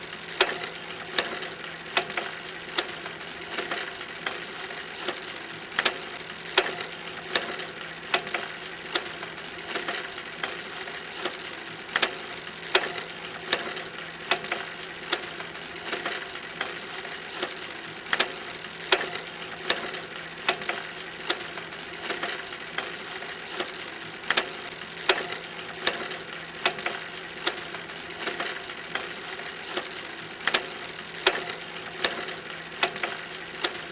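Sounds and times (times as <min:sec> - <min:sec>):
bicycle clicks and rattles: 0:00.0 - 0:33.9.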